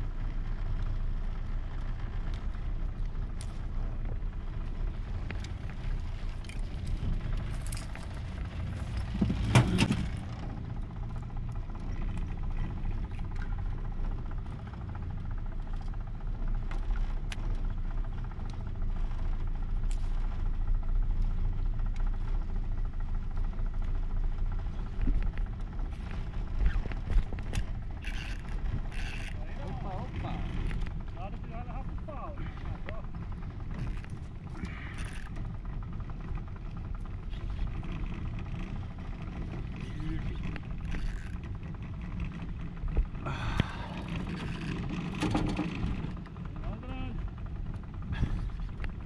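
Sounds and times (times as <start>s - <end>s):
motorboat engine rumbling: 0.0s - 49.0s.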